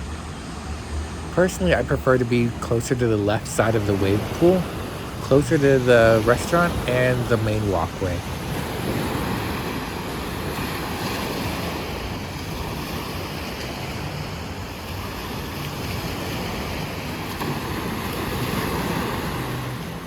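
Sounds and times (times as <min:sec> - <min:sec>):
surf washing onto beach: 0:00.0 - 0:20.0.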